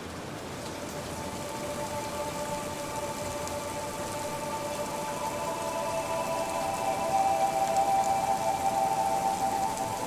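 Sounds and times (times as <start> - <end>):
steady rain falling: 0.0 - 10.0
soft held musical tones: 0.8 - 10.0.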